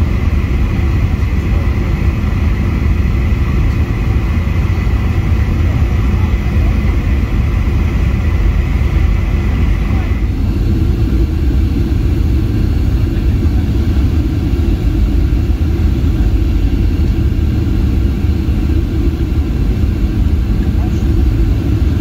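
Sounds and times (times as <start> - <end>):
jet engine rumble in cabin: 0.0 - 22.0.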